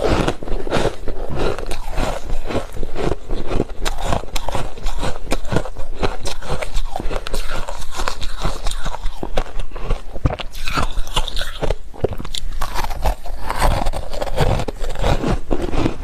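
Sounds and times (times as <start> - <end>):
chewing frost crunches: 0.0 - 16.0.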